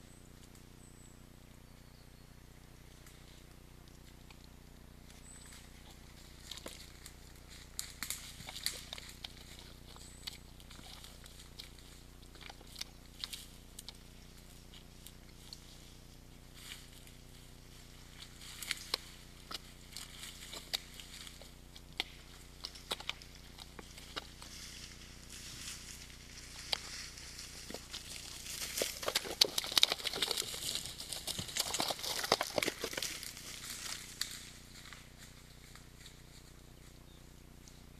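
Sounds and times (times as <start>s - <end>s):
faint steady hum: 0.0s - 37.9s
hooves squelching in wet mud: 2.9s - 37.9s.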